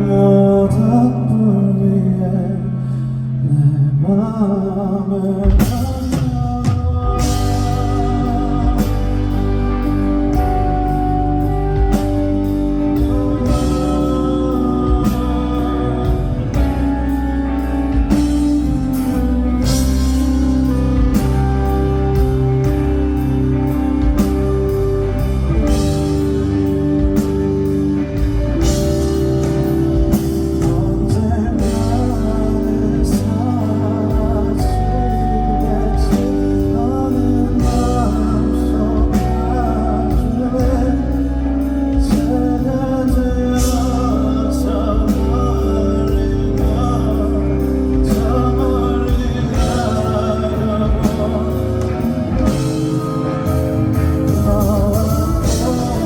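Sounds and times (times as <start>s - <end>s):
live band with singing: 0.0s - 56.0s.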